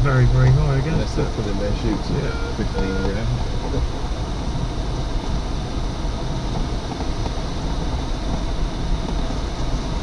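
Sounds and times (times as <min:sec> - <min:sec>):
wind rushing over glider cockpit: 0:00.0 - 0:10.0.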